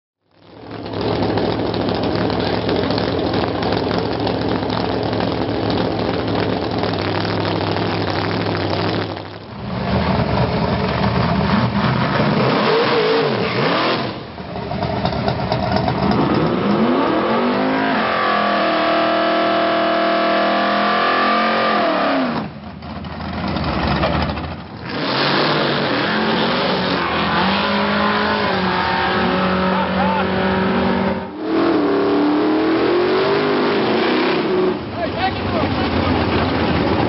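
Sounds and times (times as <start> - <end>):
drag car engines revving: 0.3 - 37.0.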